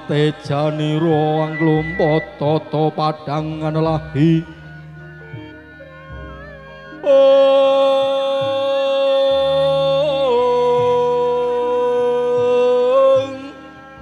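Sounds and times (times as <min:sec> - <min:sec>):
person singing long held note: 0:00.0 - 0:04.4, 0:07.0 - 0:14.0
low repeating accompaniment: 0:00.0 - 0:14.0.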